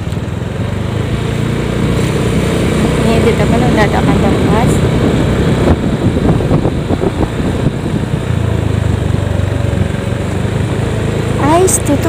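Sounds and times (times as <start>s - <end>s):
road and wind noise: 0.0s - 12.0s
small motorcycle engine running: 0.0s - 12.0s.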